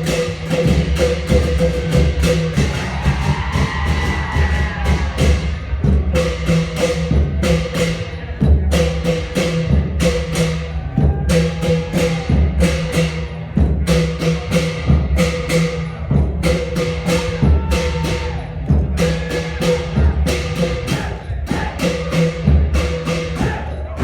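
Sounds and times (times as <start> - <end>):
deep drum beats: 0.0 - 24.0
sharp cymbal strikes: 0.0 - 24.0.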